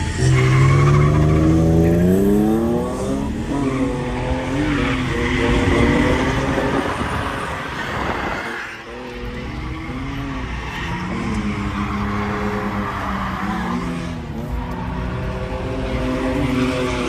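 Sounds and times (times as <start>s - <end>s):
car engines revving: 0.0s - 17.0s
tires squealing: 0.0s - 17.0s.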